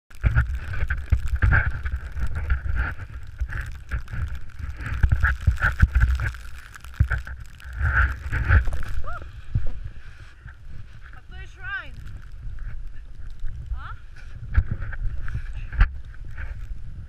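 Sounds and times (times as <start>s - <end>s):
rush of snow: 0.1s - 17.0s
wind buffeting microphone: 0.1s - 17.0s.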